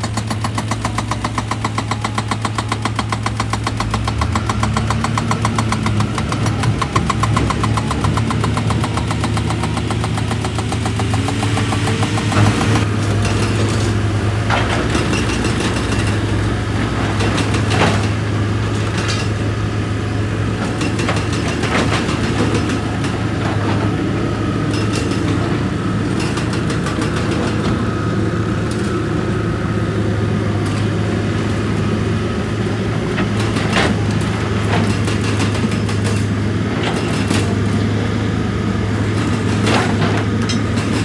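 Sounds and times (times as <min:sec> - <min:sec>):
heavy diesel machinery humming: 0:00.0 - 0:41.0.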